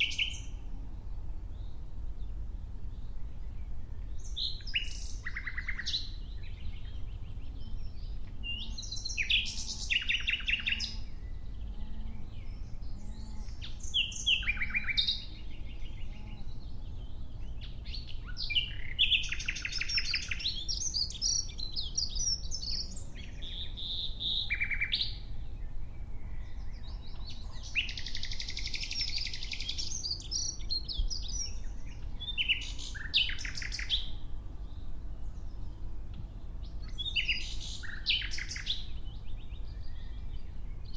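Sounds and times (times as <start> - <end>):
nightingale singing: 0.0 - 0.6, 1.5 - 40.9.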